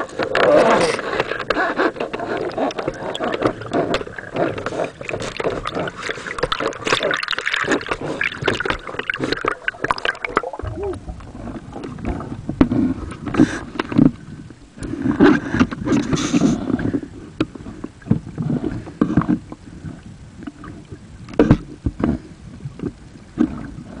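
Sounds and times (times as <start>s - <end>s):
water swirling and bubbling: 0.0s - 24.0s.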